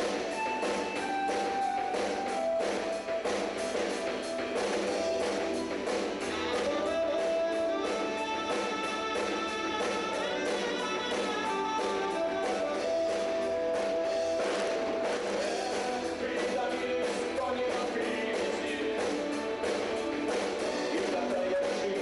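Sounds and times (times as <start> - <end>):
rock band with guitar: 0.0 - 22.0.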